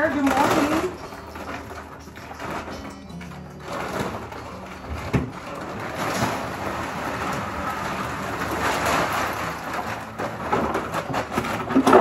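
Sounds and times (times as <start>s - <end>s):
dry feed pouring into plastic bin: 0.0s - 12.0s.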